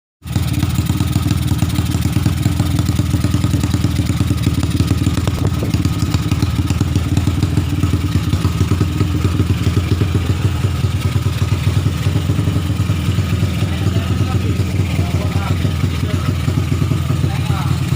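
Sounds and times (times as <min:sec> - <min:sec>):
motorcycle engine idling: 0:00.2 - 0:17.9.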